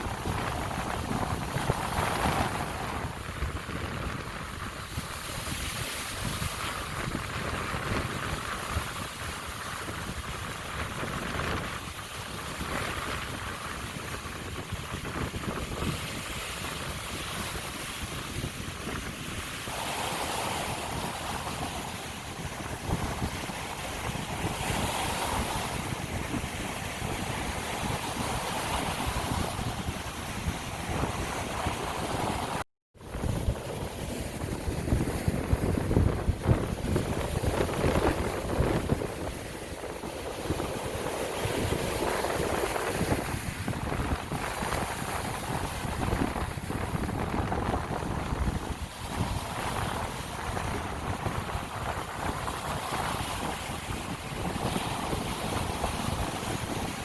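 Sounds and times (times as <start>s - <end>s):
waves washing on shore: 0.0s - 57.0s
wind buffeting microphone: 0.0s - 57.0s.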